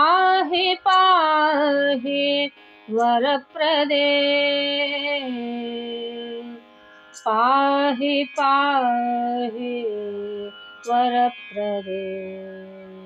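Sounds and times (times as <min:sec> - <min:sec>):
woman singing devotional song: 0:00.0 - 0:13.0.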